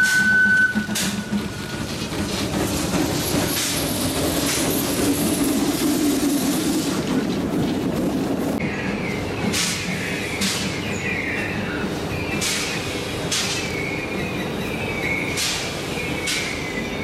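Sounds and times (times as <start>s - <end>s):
distant train squealing: 0.0s - 7.3s, 8.6s - 17.0s
train wheels clattering on rails: 0.0s - 17.0s.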